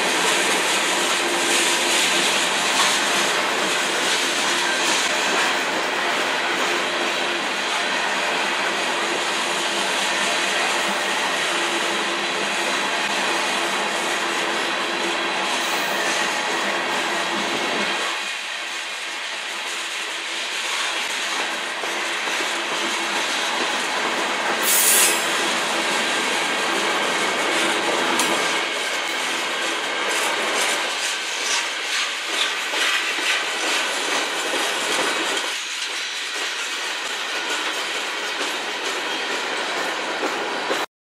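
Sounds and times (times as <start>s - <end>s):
train wheels rolling on track: 0.0s - 40.9s.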